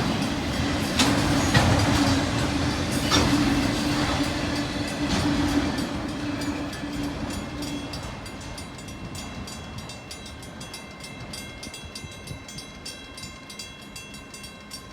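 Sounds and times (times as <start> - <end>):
train wheels clicking on rails: 0.0 - 14.9.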